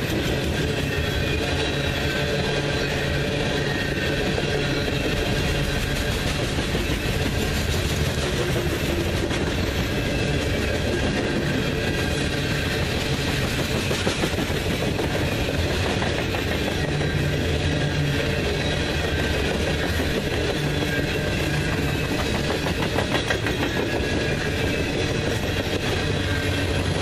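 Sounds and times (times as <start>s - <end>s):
train cars rolling on rails: 0.0s - 27.0s.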